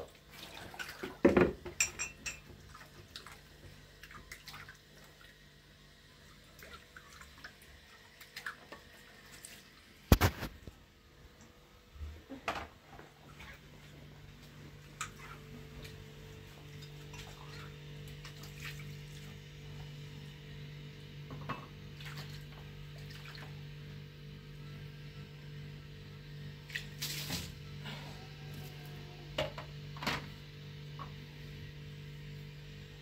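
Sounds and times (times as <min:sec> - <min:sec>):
steady low hum: 0:01.8 - 0:33.0.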